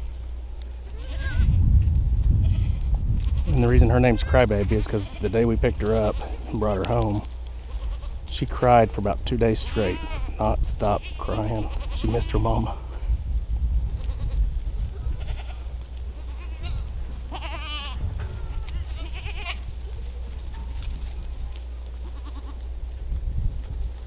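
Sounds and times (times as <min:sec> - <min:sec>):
goats bleating: 0:00.8 - 0:01.7, 0:02.4 - 0:13.1, 0:13.9 - 0:22.8
low rumble: 0:01.3 - 0:24.0.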